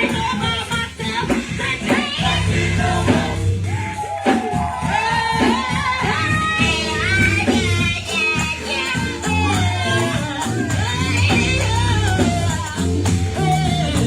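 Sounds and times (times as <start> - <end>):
band with bass and beat: 0.0 - 14.0
gospel choir singing: 0.0 - 14.0.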